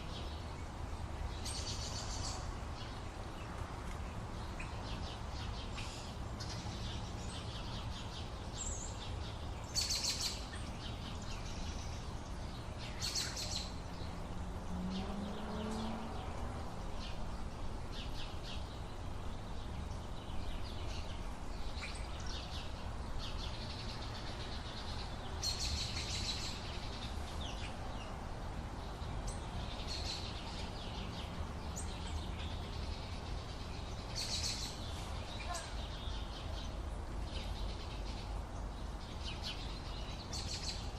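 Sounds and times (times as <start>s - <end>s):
birds chirping and singing: 4.4s - 28.2s, 28.8s - 40.9s.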